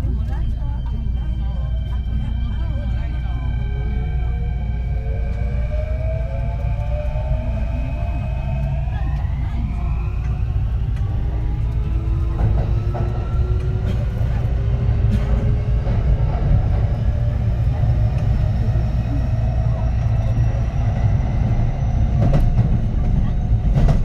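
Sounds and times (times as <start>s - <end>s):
electric train inverter whine: 0.0s - 24.0s
train running rumble: 0.0s - 24.0s.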